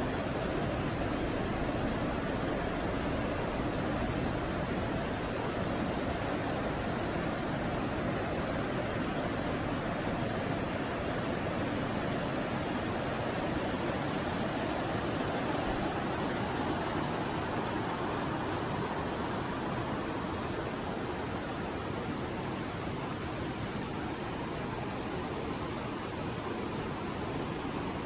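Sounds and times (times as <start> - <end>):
forest stream rushing: 0.0 - 28.0.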